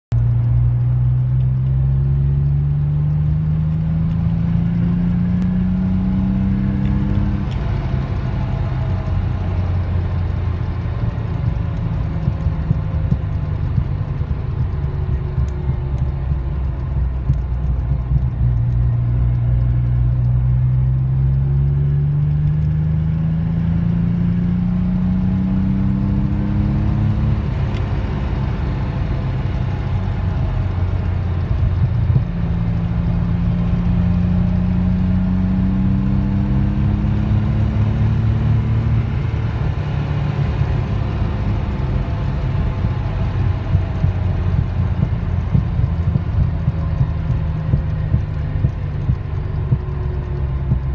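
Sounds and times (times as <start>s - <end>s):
car engine accelerating: 0.1s - 50.9s.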